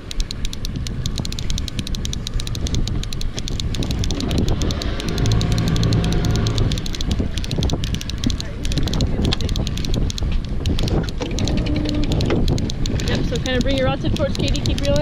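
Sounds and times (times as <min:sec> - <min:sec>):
fishing reel clicking: 0:00.0 - 0:15.0
low rumble: 0:00.6 - 0:15.0.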